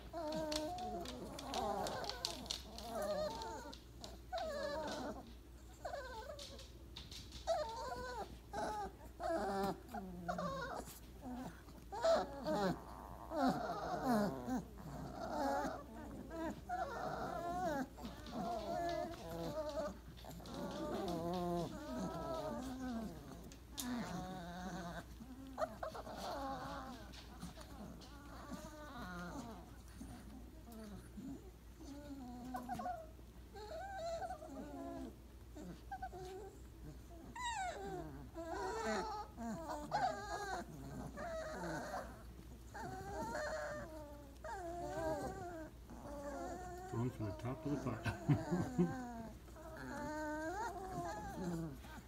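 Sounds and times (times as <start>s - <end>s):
puppies whimpering and whining: 0.0s - 52.0s.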